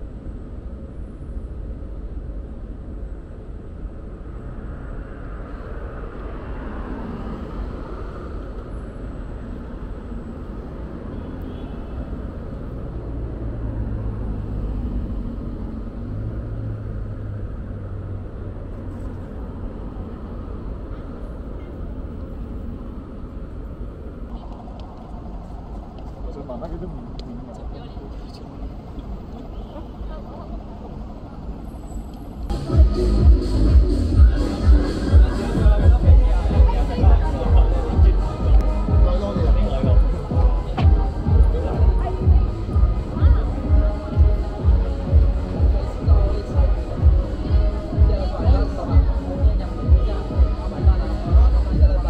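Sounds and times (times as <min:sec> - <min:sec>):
road traffic rumble: 0:00.0 - 0:52.0
vehicles passing: 0:00.0 - 0:52.0.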